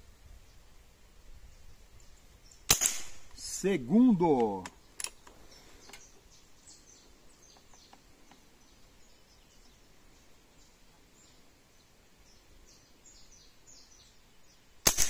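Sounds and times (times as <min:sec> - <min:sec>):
faint bird chirps: 0:00.3 - 0:14.8.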